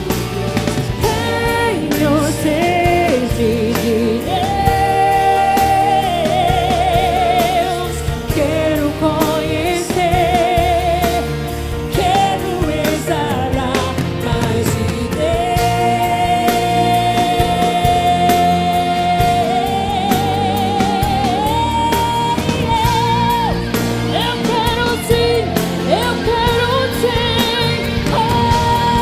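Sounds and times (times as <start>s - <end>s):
band accompaniment: 0.0s - 29.0s
woman singing with vibrato: 1.0s - 29.0s.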